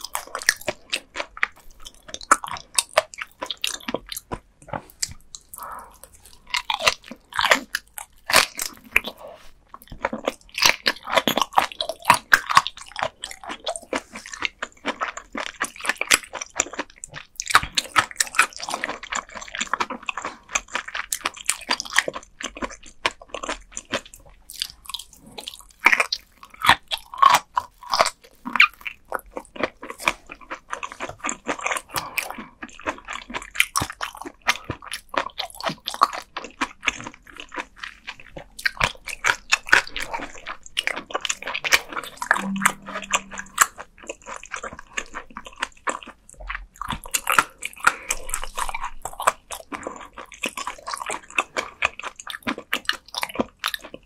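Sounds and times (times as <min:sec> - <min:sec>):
wet mouth sounds: 0:00.0 - 0:19.5, 0:24.5 - 0:53.8
crunching of small bones: 0:00.0 - 0:42.5, 0:43.4 - 0:54.0.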